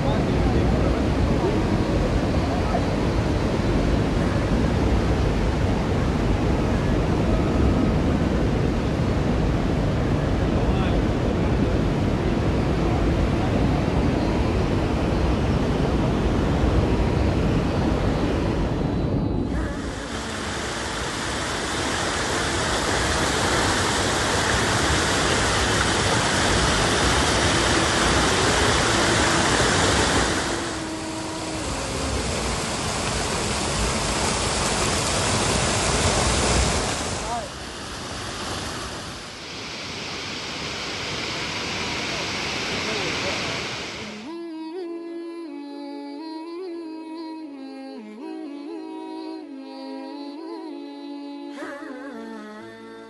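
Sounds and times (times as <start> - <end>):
waterfall roar: 0.0 - 18.7, 19.5 - 44.4
wind on microphone: 0.0 - 44.3.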